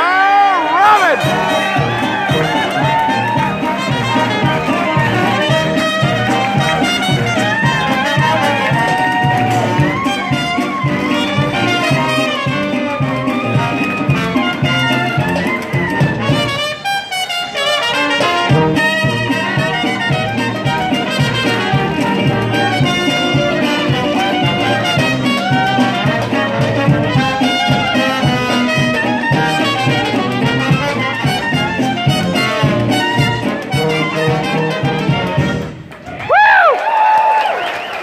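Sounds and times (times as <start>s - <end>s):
jazz band playing live: 0.9s - 35.9s
tuba bass: 1.2s - 35.9s.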